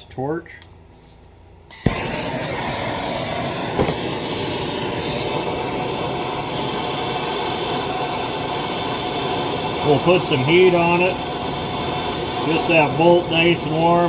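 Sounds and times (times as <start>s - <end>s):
gas torch hissing: 1.7s - 14.0s
gas torch lighting pop: 1.7s - 14.0s.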